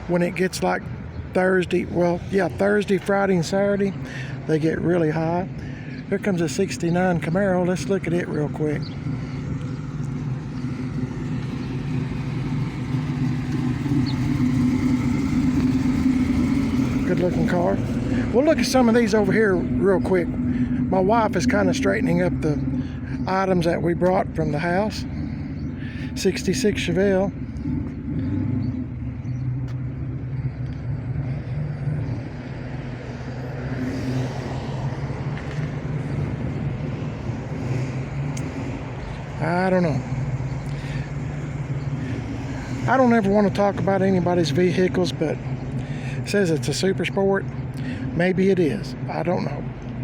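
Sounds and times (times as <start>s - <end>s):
car engine driving up: 0.0s - 50.0s.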